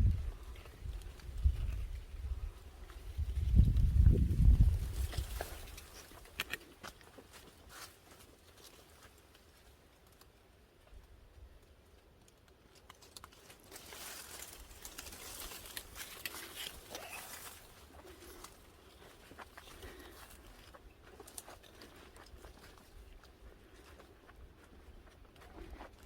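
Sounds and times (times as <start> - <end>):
footsteps on a trail: 0.0 - 9.7, 13.4 - 26.0
crunching footsteps: 0.1 - 9.6, 12.8 - 26.0.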